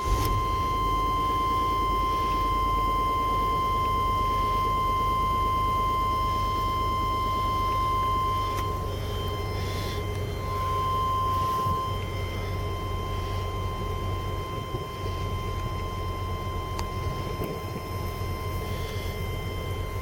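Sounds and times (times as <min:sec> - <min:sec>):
high-pitched whine: 0:00.0 - 0:20.0
truck engine idling: 0:00.0 - 0:20.0.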